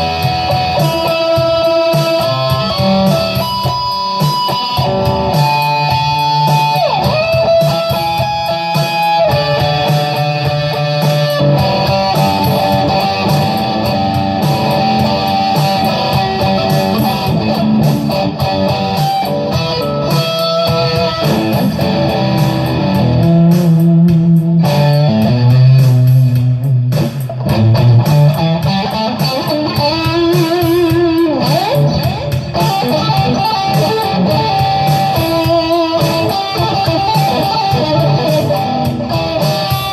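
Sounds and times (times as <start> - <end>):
electric guitar lead lines: 0.0 - 39.9.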